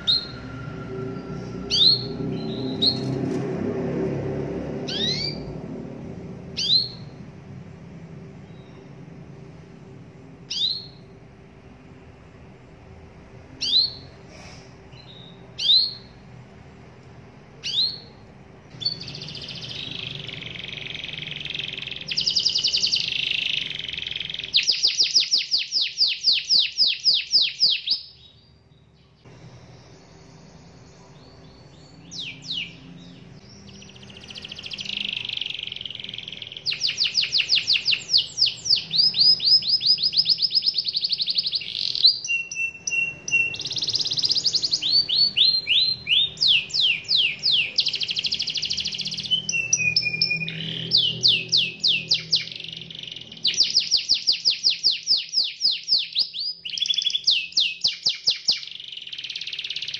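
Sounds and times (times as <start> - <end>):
canary singing: 0.0 - 3.6, 4.6 - 59.9.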